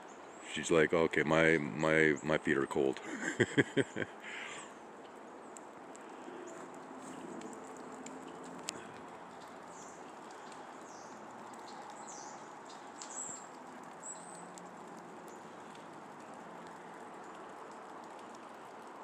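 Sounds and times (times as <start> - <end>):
drizzle patter: 0.4 - 19.0.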